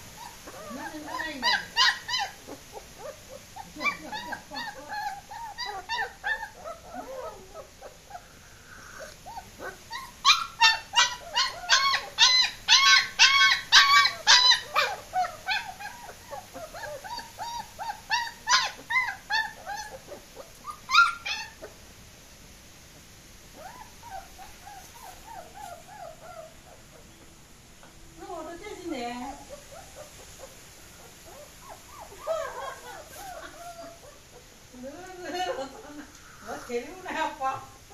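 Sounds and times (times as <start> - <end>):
puppies whining and yelping: 0.0 - 21.8, 23.5 - 28.0, 29.4 - 35.9.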